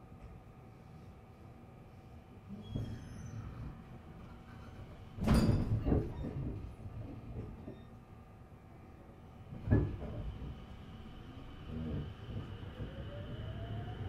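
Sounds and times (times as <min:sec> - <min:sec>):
train low hum: 0:00.0 - 0:02.6, 0:03.4 - 0:14.0.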